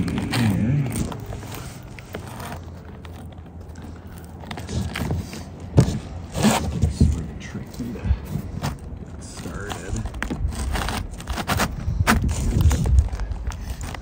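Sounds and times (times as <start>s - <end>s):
shingles rustling and scraping: 0.0s - 14.0s.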